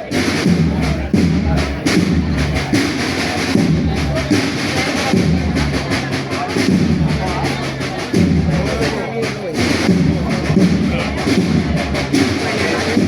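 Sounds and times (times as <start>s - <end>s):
music with drum beat and bass: 0.0s - 13.0s.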